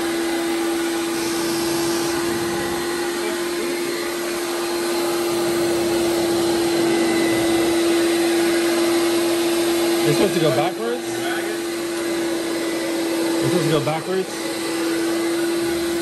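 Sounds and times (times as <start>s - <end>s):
carpet washing machine running: 0.0s - 16.0s.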